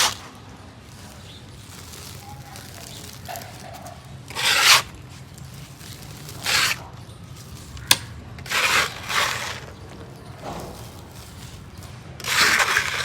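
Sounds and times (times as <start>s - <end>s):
cement crumbling and scraping: 0.0s - 13.0s.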